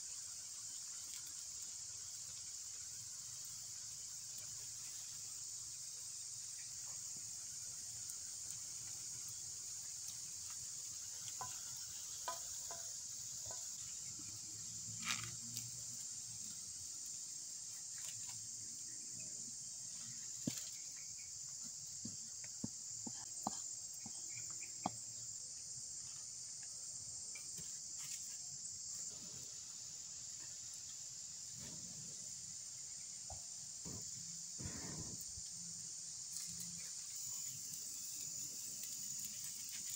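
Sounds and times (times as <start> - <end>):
forest insects chorus: 0.0 - 39.9.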